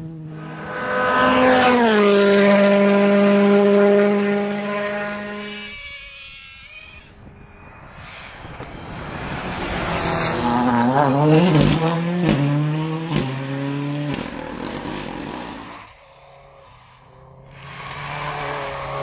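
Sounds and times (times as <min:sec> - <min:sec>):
rally car engine revving: 0:00.0 - 0:06.9, 0:09.2 - 0:19.0.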